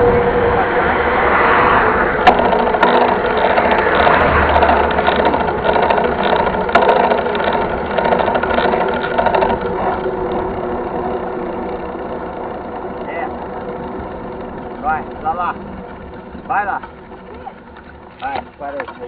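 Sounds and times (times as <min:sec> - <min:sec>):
mountain bike rattling on trail: 0:02.2 - 0:19.0
sharp clicks and knocks: 0:02.2 - 0:19.0.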